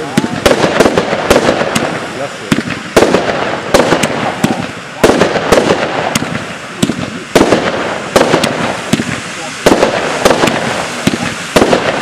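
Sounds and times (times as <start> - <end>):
crackling hiss of fireworks: 0.0 - 12.0
fireworks bangs: 0.0 - 12.0.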